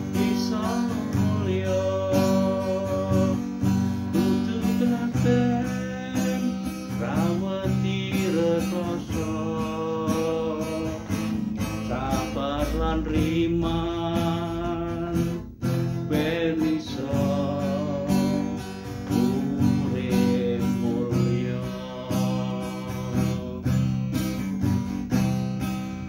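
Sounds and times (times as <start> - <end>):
man singing: 0.0 - 24.5
acoustic guitar strumming: 0.0 - 26.0.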